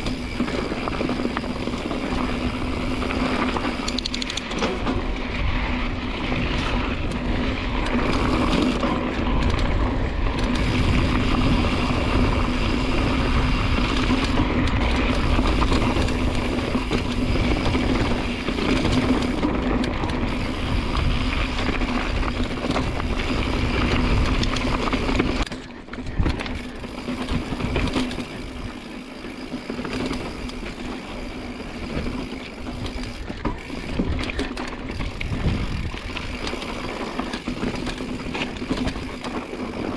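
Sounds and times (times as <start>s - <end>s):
rushing wind noise: 0.0s - 25.4s, 26.0s - 39.9s
bike rattling: 0.0s - 39.9s.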